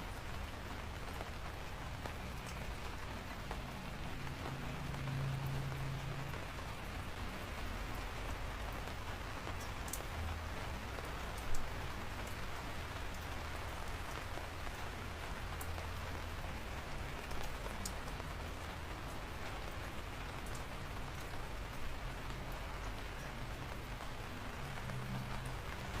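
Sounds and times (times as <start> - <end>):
raindrops ticking: 0.0 - 26.0
steady rain: 0.0 - 26.0.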